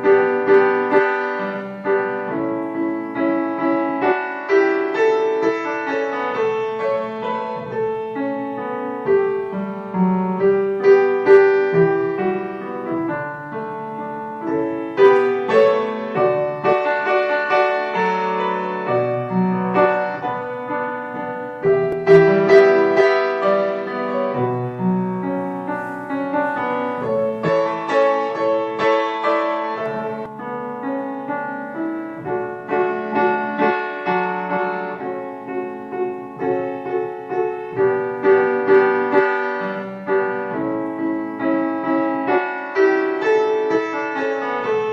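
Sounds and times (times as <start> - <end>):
gentle solo piano music: 0.0 - 44.9.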